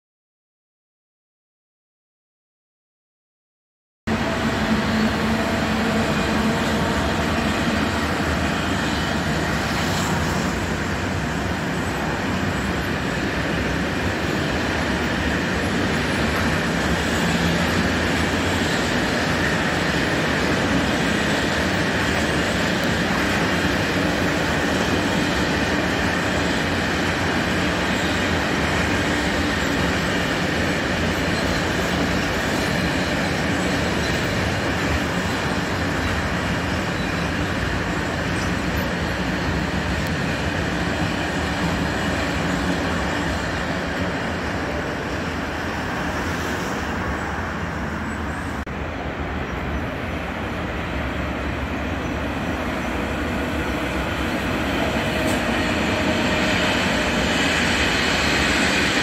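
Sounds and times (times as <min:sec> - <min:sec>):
freight train wheels on rails: 0:04.1 - 0:59.0.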